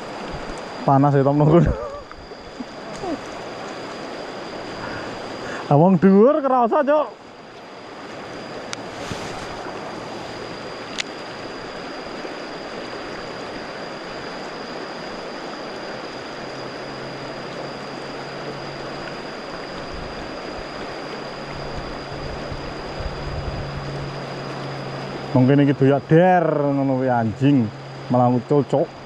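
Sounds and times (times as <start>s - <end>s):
flowing water rushing: 0.0s - 29.0s
low hum: 0.0s - 29.0s
thin high tone: 0.0s - 29.0s.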